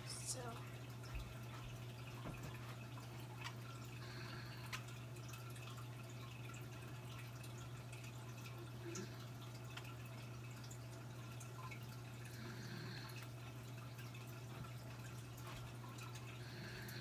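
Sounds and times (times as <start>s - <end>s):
faint ticks and clicks: 0.4s - 17.0s.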